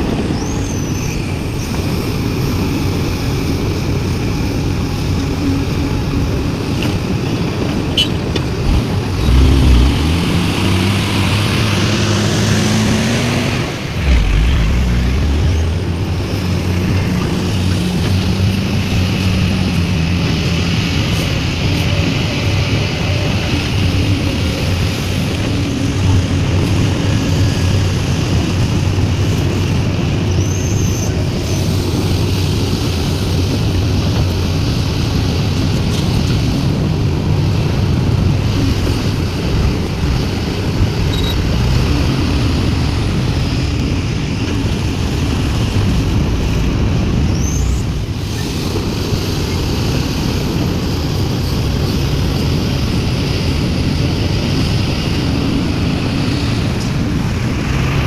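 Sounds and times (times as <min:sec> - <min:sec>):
excavator diesel engine running: 0:00.0 - 0:30.4, 0:31.1 - 0:58.0.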